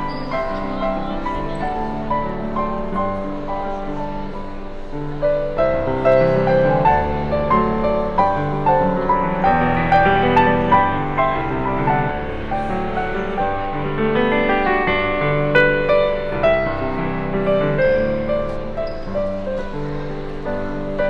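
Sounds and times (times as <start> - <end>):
grand piano piece: 0.0 - 21.0.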